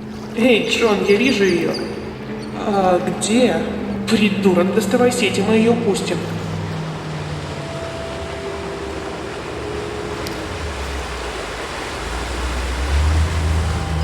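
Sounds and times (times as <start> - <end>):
sea rushing: 0.0 - 14.0
deep low hum: 1.0 - 14.0.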